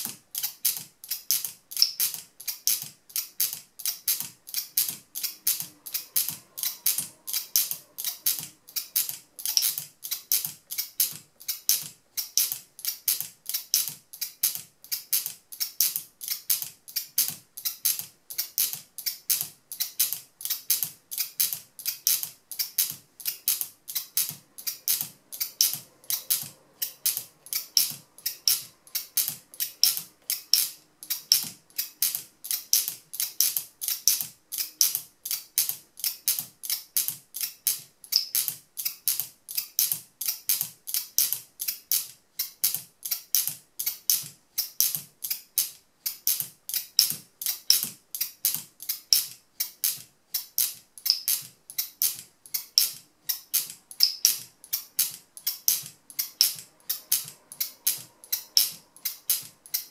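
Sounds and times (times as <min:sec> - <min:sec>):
locking mechanism clicking: 0:00.0 - 0:59.9.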